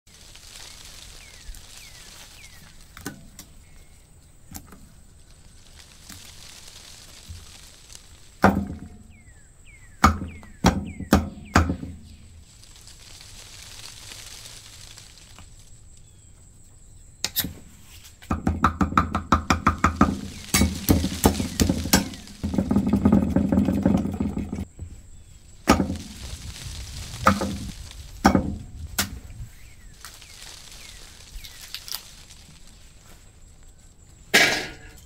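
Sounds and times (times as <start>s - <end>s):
food scraping and rustling: 0.1s - 9.9s, 12.0s - 16.3s, 19.7s - 35.0s.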